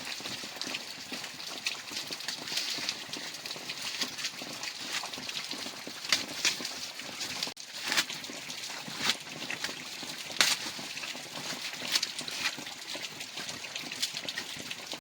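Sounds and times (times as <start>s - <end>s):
drips and taps: 0.0s - 15.0s.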